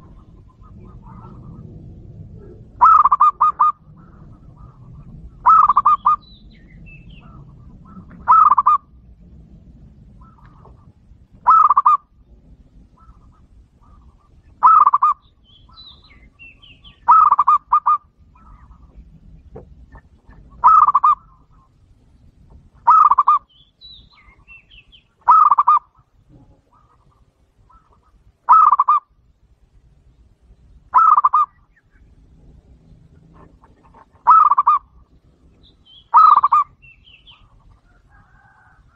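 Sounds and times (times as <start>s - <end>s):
dove cooing: 0.0s - 9.2s, 10.0s - 12.1s, 12.8s - 21.8s, 22.8s - 23.5s, 24.2s - 29.1s, 30.9s - 38.9s.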